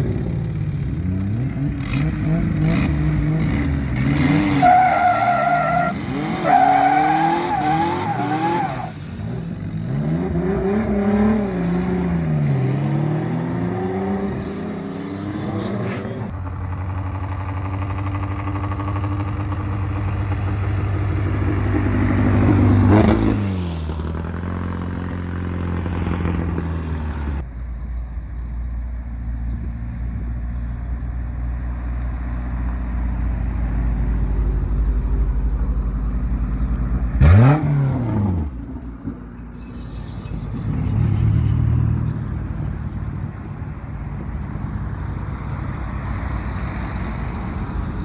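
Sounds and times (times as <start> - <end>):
car engines revving: 0.0 - 27.4, 32.3 - 48.0.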